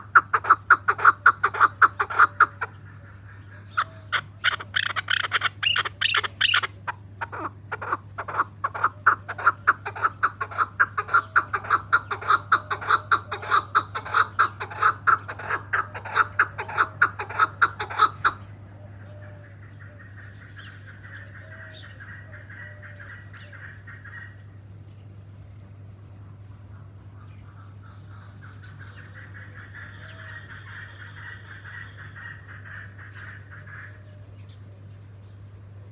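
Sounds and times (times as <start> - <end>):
partridge clucking calls: 0.0 - 24.5, 26.6 - 34.0.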